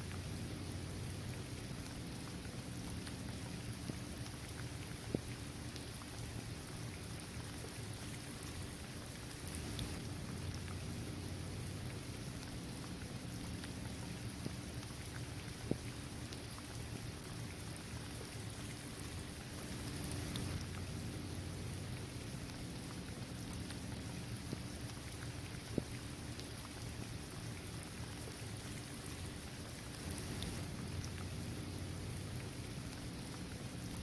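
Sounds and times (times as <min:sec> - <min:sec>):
raindrops ticking: 0:00.0 - 0:34.0
steady rain falling: 0:00.0 - 0:34.0.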